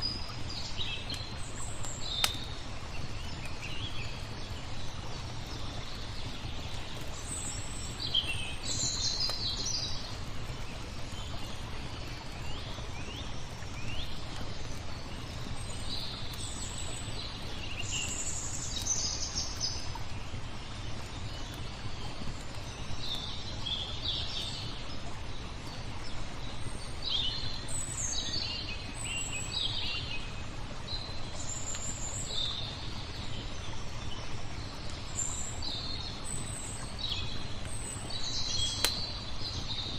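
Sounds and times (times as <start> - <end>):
faint fire crackles: 0.0 - 39.9
flowing water rushing: 0.0 - 39.9
songbirds singing: 0.0 - 39.9.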